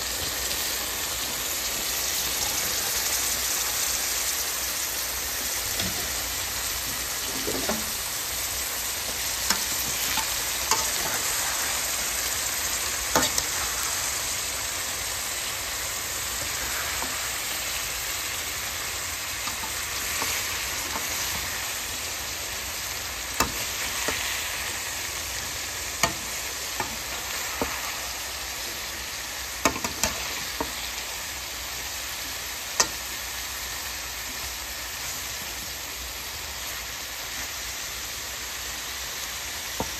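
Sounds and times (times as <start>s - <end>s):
vegetables sizzling in a pan: 0.0s - 39.9s.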